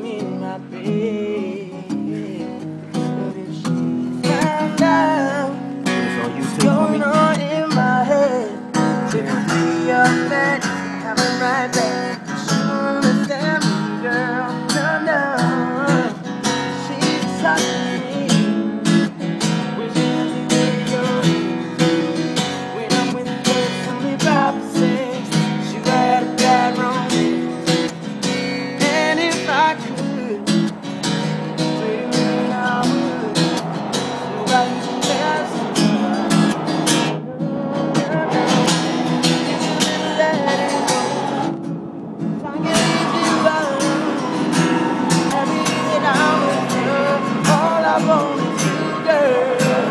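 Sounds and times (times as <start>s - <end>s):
acoustic guitar strumming: 0.0s - 49.9s
man singing: 0.0s - 49.9s.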